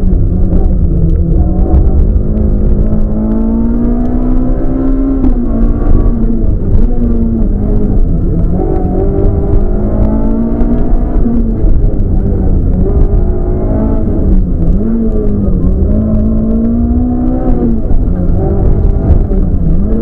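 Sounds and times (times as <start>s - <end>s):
rally car engine pulling hard: 0.0s - 20.0s
road rumble: 0.0s - 20.0s.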